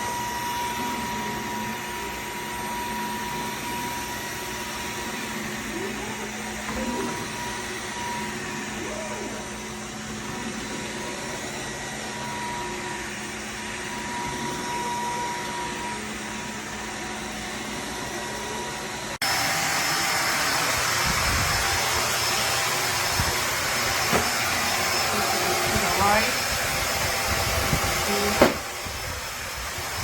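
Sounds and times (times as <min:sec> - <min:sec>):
upright vacuum cleaner running: 0:00.0 - 0:30.0.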